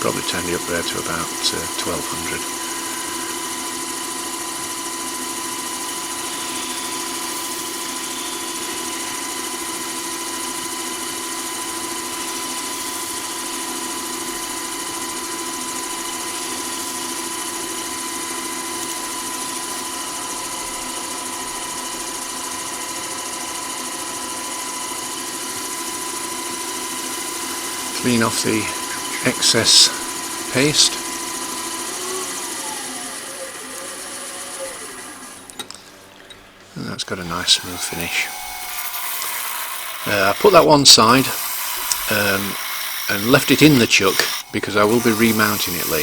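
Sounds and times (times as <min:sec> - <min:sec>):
wood lathe motor whining: 0:00.0 - 0:46.0.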